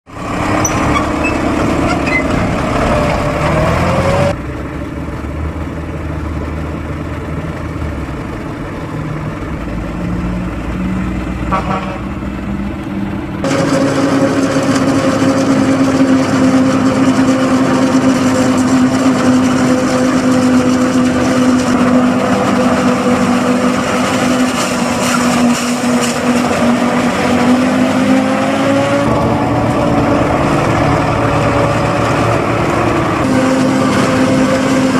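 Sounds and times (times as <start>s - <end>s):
forage harvester droning: 0.1s - 34.9s
tractor engine: 0.1s - 34.9s.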